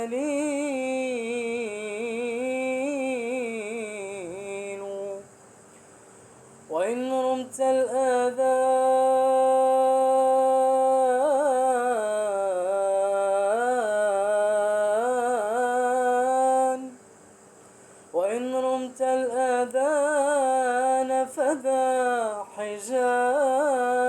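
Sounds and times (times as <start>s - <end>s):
man singing unaccompanied: 0.0s - 5.4s, 6.7s - 17.1s, 18.1s - 24.0s.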